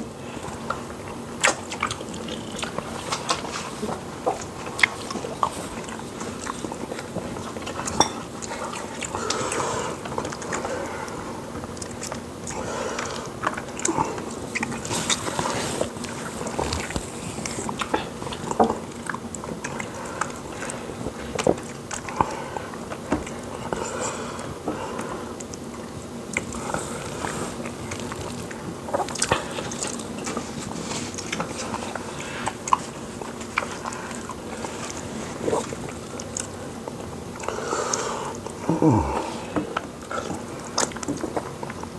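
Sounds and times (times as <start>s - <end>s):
chewing with wet mouth smacks: 0.2s - 41.9s.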